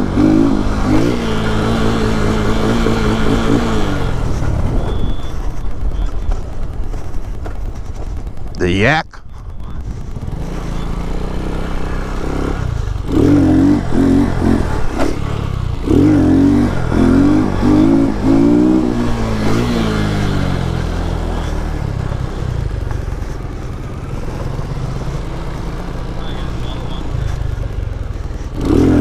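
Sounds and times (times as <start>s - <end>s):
motorcycle engine revving: 0.0s - 8.6s, 9.4s - 29.0s.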